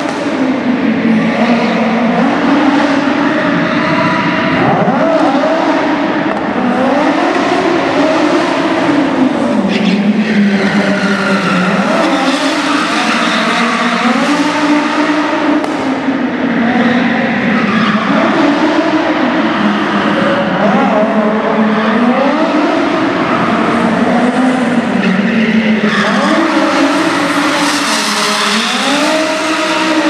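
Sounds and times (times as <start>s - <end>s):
car engine revving hard: 0.0s - 30.0s.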